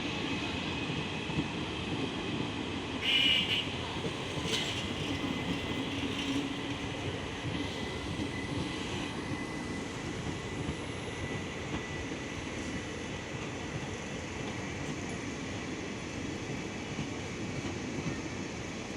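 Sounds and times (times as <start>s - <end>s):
train coaches rumbling on track: 0.0s - 18.9s.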